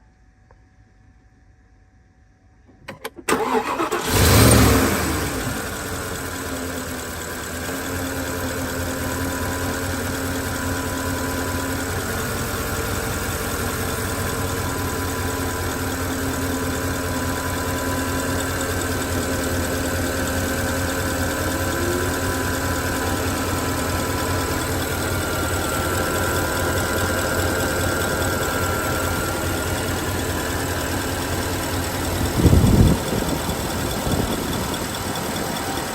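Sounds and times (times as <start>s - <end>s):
car engine starting and idling: 2.7s - 35.9s.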